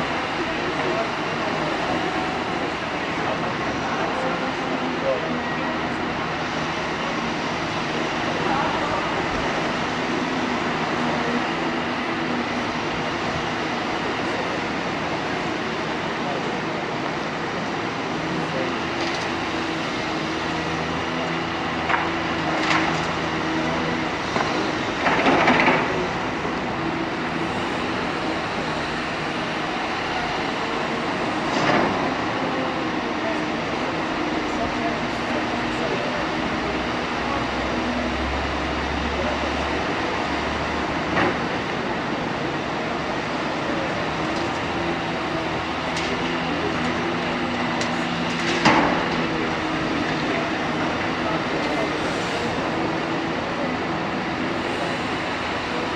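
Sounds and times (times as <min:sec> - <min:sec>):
excavator diesel engine and hydraulics: 0:00.0 - 0:55.9.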